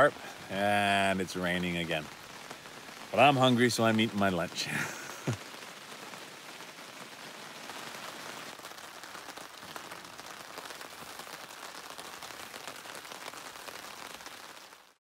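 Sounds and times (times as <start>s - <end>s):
steady rain with drop hits: 0.0s - 15.0s.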